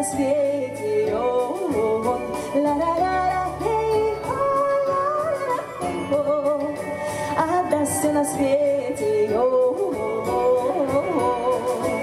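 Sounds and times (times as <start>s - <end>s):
instrumental accompaniment: 0.0s - 12.0s
woman singing a ballad: 0.0s - 12.0s.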